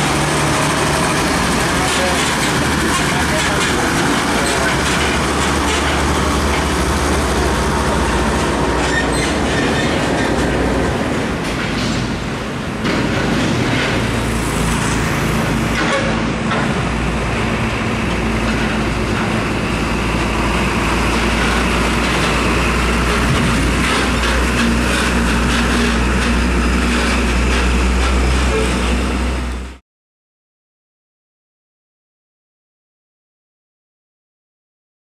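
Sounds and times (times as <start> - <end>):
diesel trucks passing: 0.0 - 29.8
loud traffic noise: 0.0 - 29.8.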